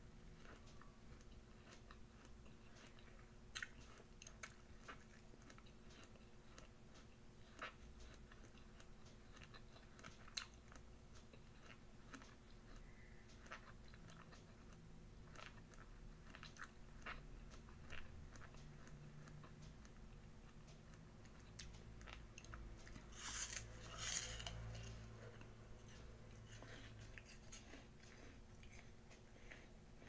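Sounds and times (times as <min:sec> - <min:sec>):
chewing crisp apple: 0:00.0 - 0:30.0.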